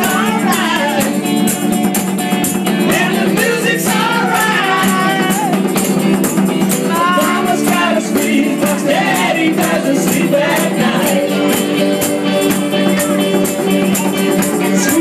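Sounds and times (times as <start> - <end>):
acoustic guitar: 0.0 - 15.0
keyboard: 0.0 - 15.0
tambourine jingling: 0.0 - 15.0
voices singing: 0.0 - 15.0.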